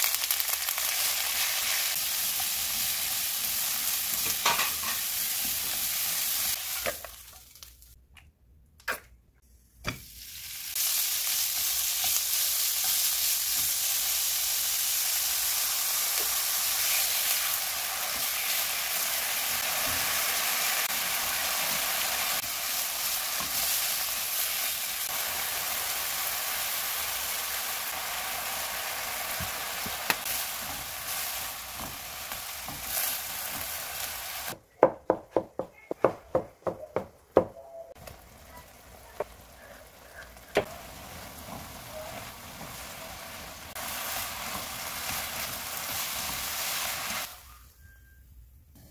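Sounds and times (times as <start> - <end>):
hot oil sizzling in a wok: 0.0 - 7.8, 9.9 - 34.6, 38.0 - 47.5.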